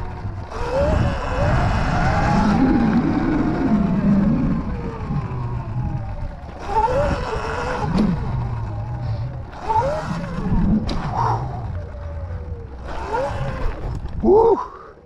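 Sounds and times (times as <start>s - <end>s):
electric motor whine: 0.0s - 14.6s
wind buffeting microphone: 0.0s - 14.9s.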